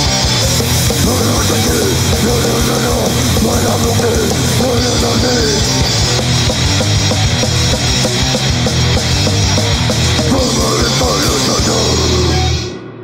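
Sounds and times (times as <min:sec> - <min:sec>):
rapid dense drumming: 0:00.0 - 0:12.7
distorted guitars and bass: 0:00.0 - 0:13.0.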